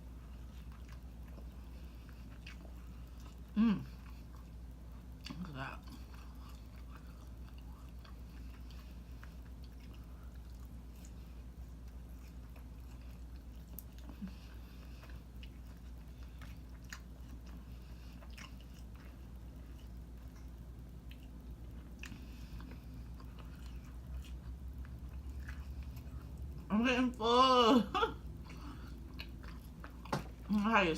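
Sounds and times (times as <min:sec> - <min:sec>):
person chewing food: 0:00.0 - 0:26.7, 0:28.1 - 0:30.9
steady low hum: 0:00.0 - 0:30.9.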